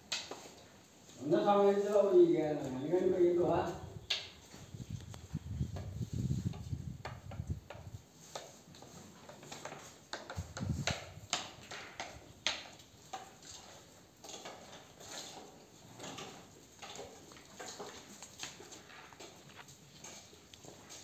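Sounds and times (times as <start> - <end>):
sheep shuffling and feeding: 0.0 - 21.0.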